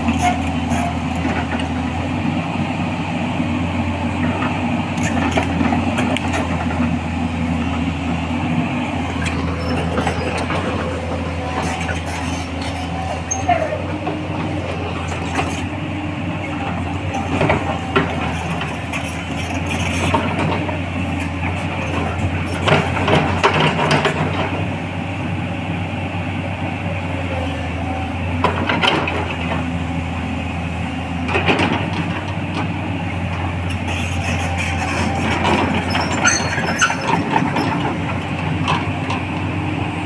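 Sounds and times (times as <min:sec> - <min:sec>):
excavator clanks and scrapes: 0:00.0 - 0:40.0
excavator diesel engine running: 0:00.0 - 0:40.0.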